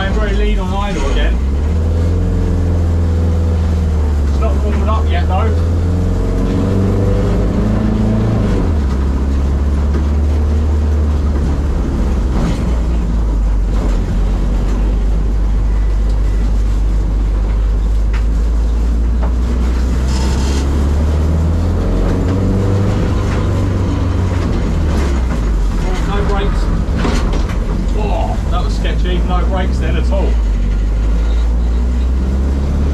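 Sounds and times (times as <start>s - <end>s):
car engine droning: 0.0s - 32.9s.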